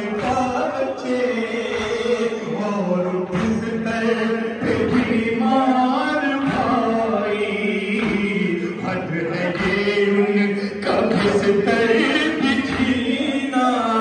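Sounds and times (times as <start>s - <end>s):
man chanting lament: 0.0s - 14.0s
men singing in chorus: 0.0s - 14.0s.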